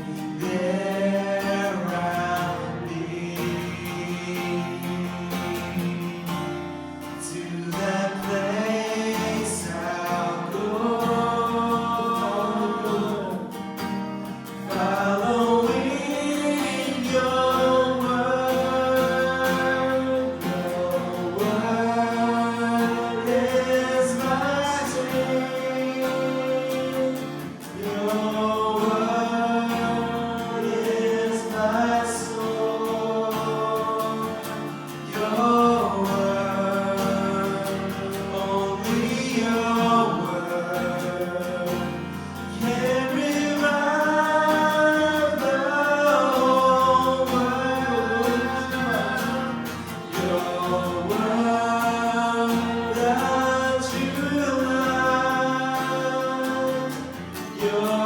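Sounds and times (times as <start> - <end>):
congregation singing: 0.0 - 58.0.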